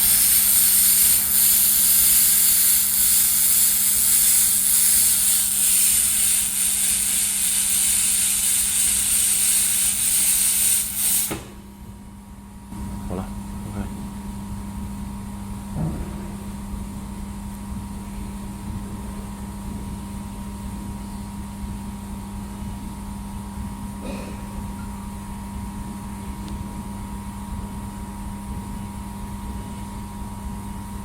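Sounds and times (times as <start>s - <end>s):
welding machine electrical hum: 0.0s - 31.0s.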